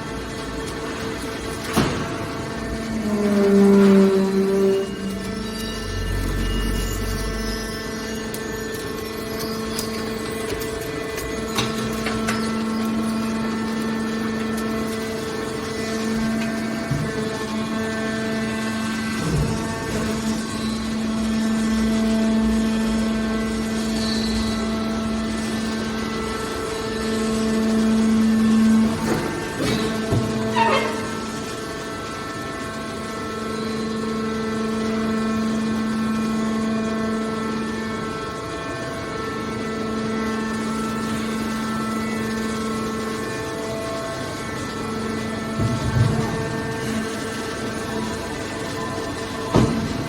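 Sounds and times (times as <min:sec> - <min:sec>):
metal baler machine drone: 0:00.0 - 0:50.0.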